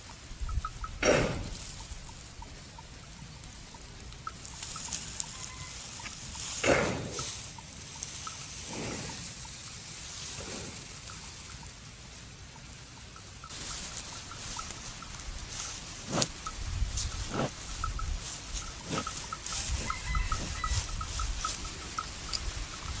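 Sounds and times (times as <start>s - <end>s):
buffalo chewing: 0.1s - 23.0s.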